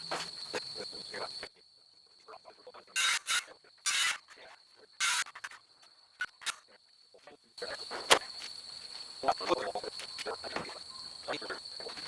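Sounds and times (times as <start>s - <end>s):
crickets buzzing: 0.0s - 12.0s.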